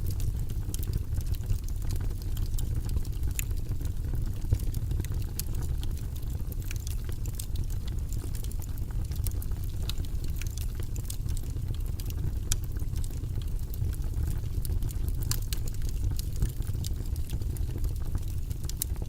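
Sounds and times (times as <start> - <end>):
fire crackling and popping: 0.0 - 19.0
low rumble of fire: 0.0 - 19.0.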